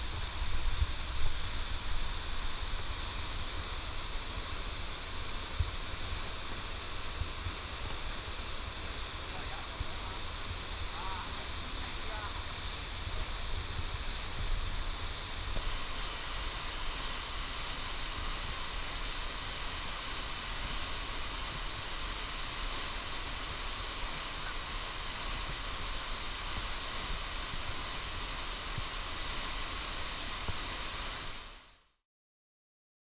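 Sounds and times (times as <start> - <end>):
waterfall rushing: 0.0 - 31.6.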